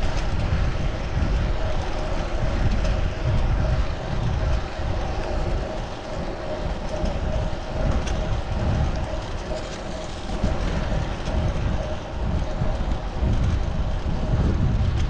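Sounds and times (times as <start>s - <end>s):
mid-pitched hum: 0.0s - 15.0s
wind buffeting microphone: 0.0s - 15.0s.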